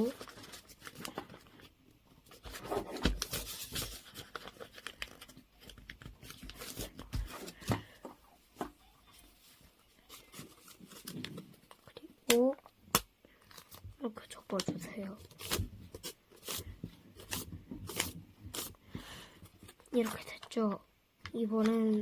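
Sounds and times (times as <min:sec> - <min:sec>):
paper rustling and creasing: 0:00.0 - 0:08.0, 0:09.2 - 0:12.0, 0:13.3 - 0:20.6.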